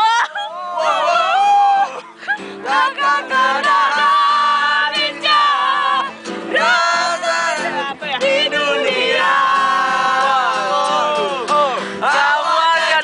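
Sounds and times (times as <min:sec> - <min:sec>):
group singing pop song: 0:00.6 - 0:13.0
strummed acoustic guitar: 0:00.9 - 0:13.0.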